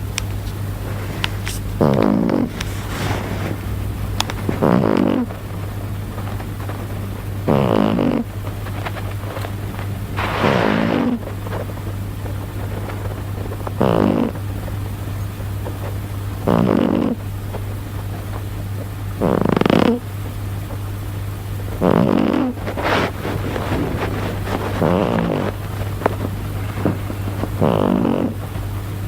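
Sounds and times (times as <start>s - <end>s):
cat snoring: 0.8s - 15.0s, 15.6s - 20.1s, 21.7s - 28.6s.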